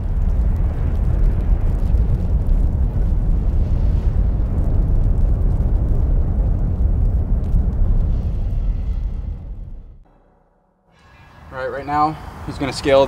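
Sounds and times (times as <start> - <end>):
loud low rumble: 0.0 - 12.5.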